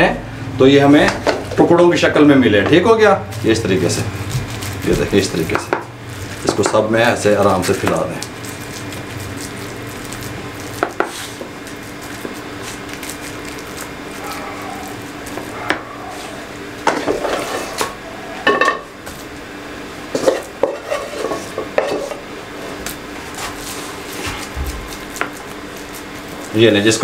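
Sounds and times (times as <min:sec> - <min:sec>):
spatula scraping sticky mixture: 0:03.0 - 0:18.4, 0:20.1 - 0:27.0.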